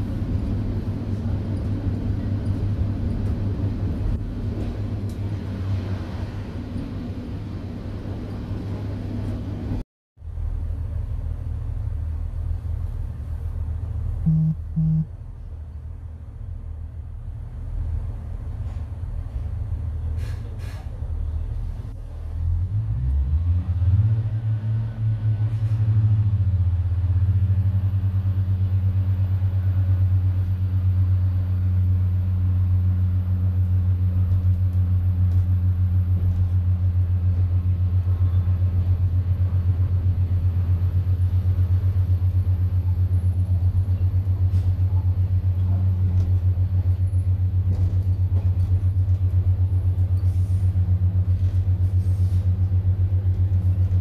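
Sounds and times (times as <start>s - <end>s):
train diesel engine droning: 0.0s - 54.0s.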